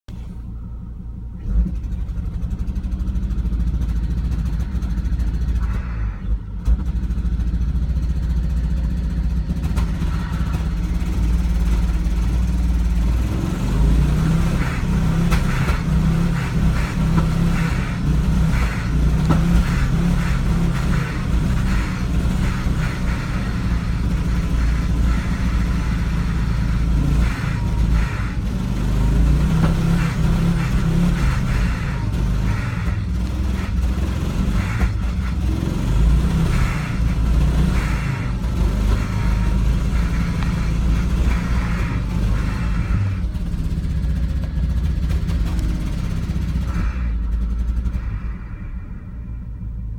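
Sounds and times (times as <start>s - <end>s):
car engine misfiring: 0.0s - 49.9s.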